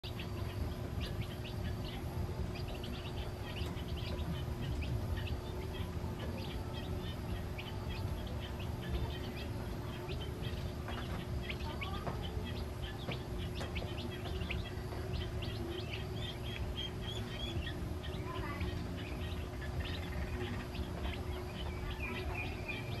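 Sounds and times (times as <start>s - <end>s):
chicks peeping: 0.0s - 23.0s
steady low rumble: 0.0s - 23.0s.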